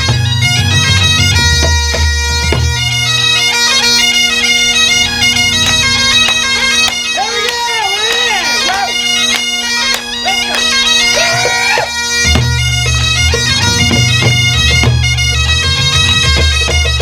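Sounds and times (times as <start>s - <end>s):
bagpipes playing a tune: 0.0s - 17.0s
deep low instrument part: 0.0s - 17.0s
drums keeping time: 0.0s - 17.0s.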